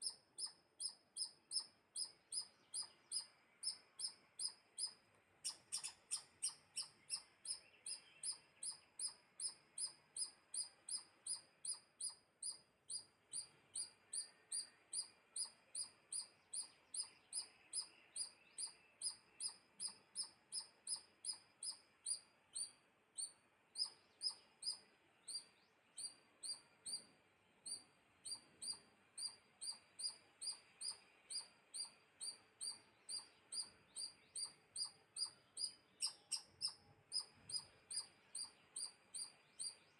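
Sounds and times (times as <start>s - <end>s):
small animal chirping: 0.0s - 39.9s.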